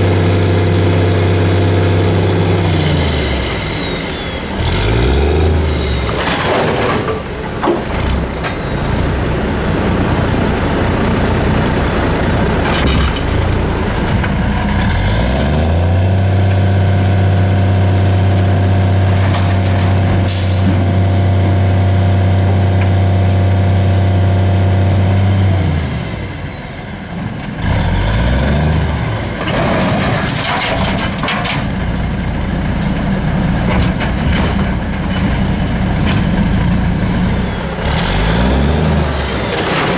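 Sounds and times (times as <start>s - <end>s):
diesel truck engine revving: 0.0s - 39.9s.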